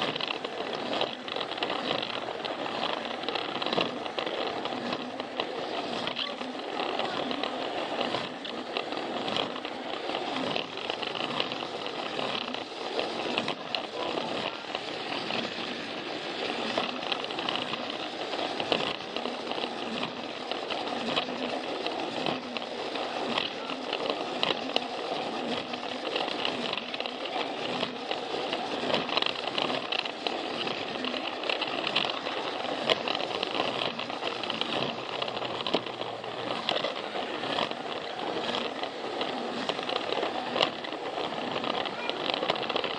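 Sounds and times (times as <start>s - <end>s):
toy train motor whir: 0.0s - 42.9s
wheels clicking on plastic track: 0.0s - 42.9s.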